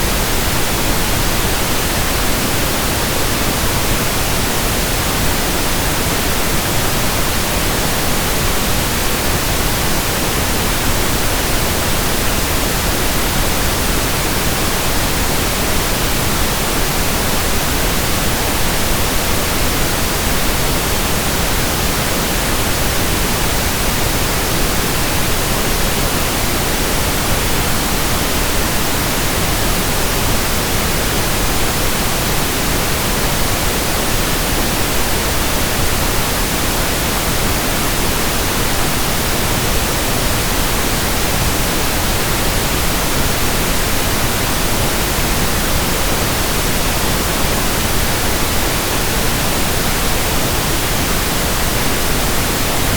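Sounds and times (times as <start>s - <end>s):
pink noise hiss: 0.0s - 52.9s.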